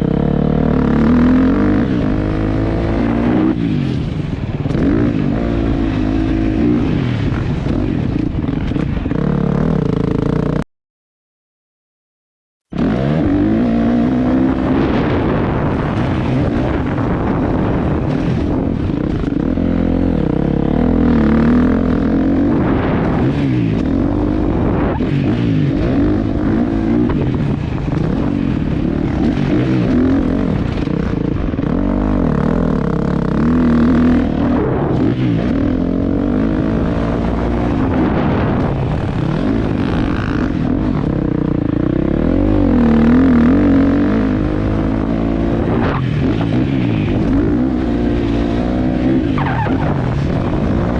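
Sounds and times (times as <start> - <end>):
dirt bike engine revving: 0.0 - 10.6, 12.7 - 50.9.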